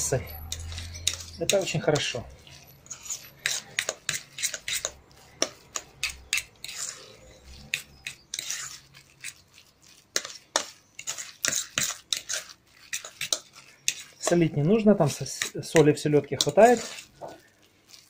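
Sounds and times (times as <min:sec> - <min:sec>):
metal utensil scraping steel bowl: 0:00.0 - 0:18.0.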